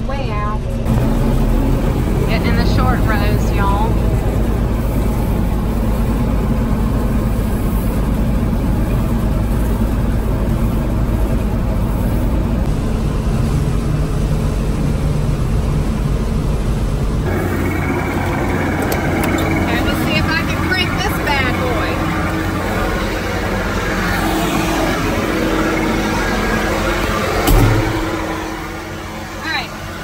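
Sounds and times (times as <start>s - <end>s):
combine engine and threshing drone: 0.0s - 30.0s
engine running steadily: 0.0s - 30.0s.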